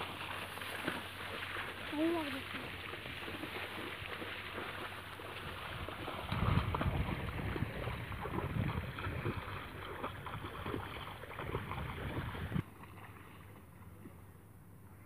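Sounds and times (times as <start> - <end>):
footsteps splashing in water: 0.0 - 14.2.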